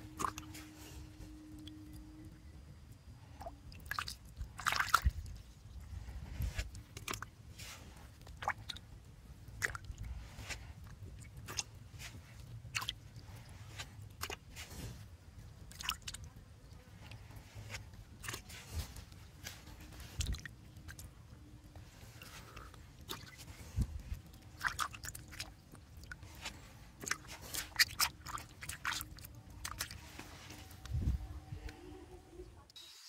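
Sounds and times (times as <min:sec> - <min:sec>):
low steady rumble: 0:00.0 - 0:32.7
hand squelching through wet mud: 0:00.1 - 0:01.1, 0:03.8 - 0:31.1.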